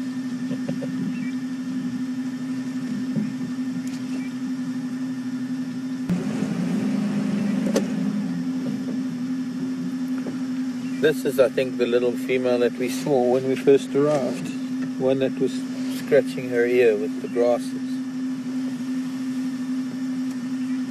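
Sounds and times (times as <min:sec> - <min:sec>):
vehicle engine idling: 0:00.0 - 0:20.9.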